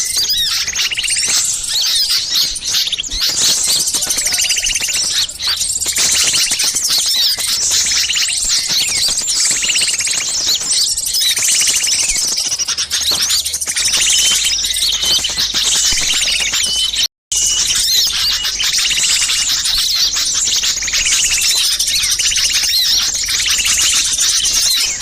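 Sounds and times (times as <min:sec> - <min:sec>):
small songbirds chirping: 0:00.0 - 0:25.0.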